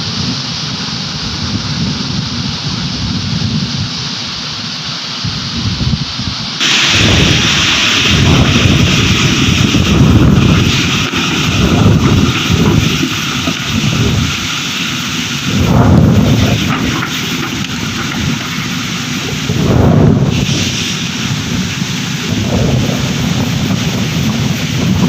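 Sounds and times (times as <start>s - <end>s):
storm wind gusting on microphone: 0.0s - 4.6s, 5.2s - 25.0s
loud steady rushing hiss: 0.0s - 25.0s.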